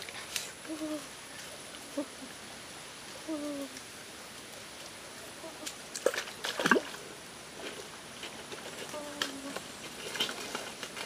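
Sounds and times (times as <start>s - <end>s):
forest stream flowing: 0.0s - 11.0s.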